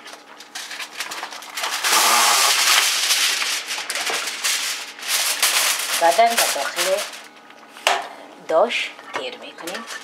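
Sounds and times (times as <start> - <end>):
aluminium foil crinkling: 0.0 - 7.6, 9.5 - 10.0.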